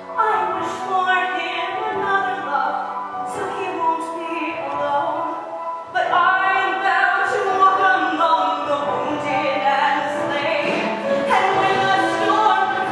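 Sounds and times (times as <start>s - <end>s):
instrumental accompaniment: 0.0s - 12.9s
woman singing: 0.1s - 12.9s.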